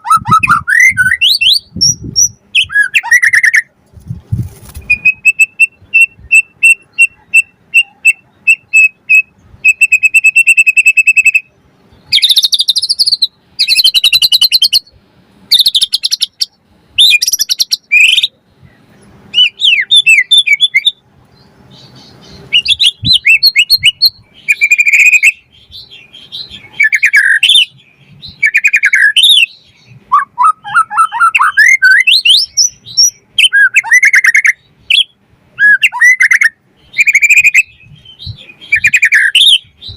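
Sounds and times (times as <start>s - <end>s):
songbird singing loudly: 0.0s - 3.7s, 4.8s - 39.9s.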